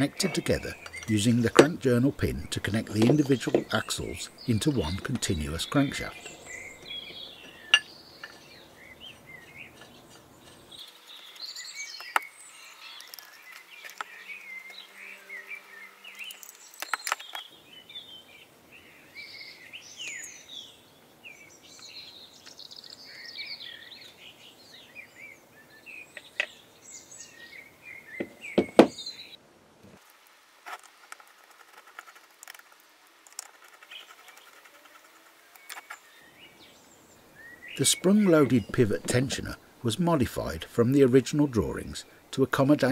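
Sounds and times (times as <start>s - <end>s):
small birds chirping: 0.0s - 29.4s, 31.0s - 42.9s.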